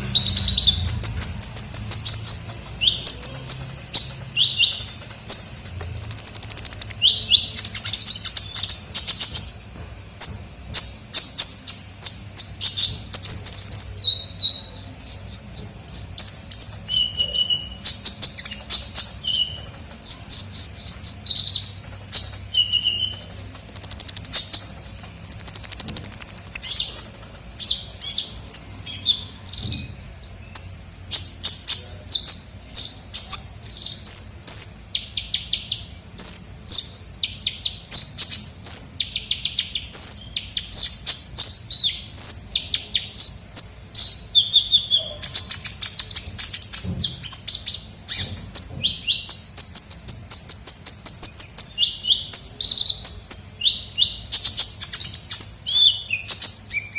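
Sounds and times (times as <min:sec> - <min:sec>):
sunbird chirps and trills: 0:00.0 - 0:09.6, 0:10.2 - 0:56.9.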